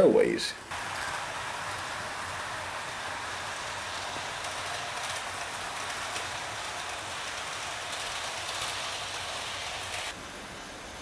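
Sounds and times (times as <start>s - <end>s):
model train running on track: 0.7s - 11.0s.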